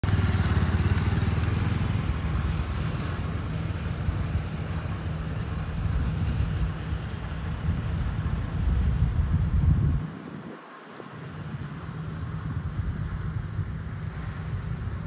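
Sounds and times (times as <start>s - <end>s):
motorcycle engine pulling away: 0.0s - 15.0s.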